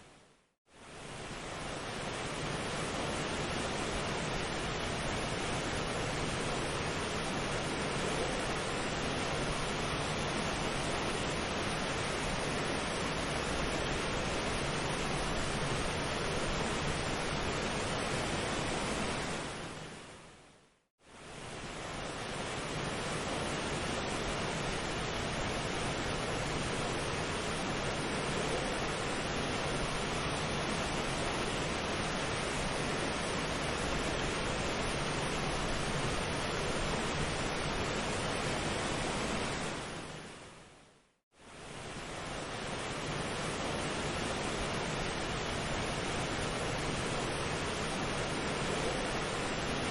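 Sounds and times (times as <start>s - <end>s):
steady rushing surf-like noise: 0.0s - 49.9s.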